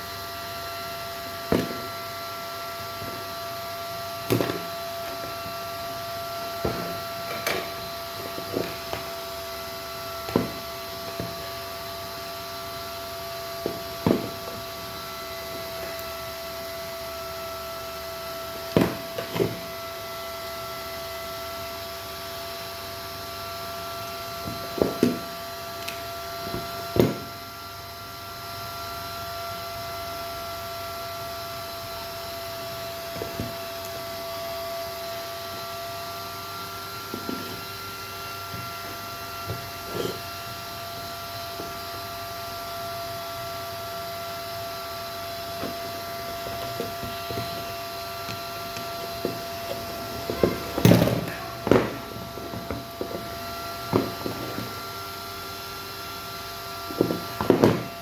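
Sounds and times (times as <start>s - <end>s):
electrical hum with high tones: 0.0s - 58.0s.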